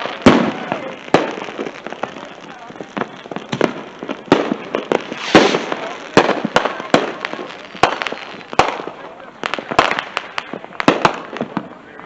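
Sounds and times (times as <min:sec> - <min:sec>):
fireworks and firecrackers banging: 0:00.0 - 0:12.0.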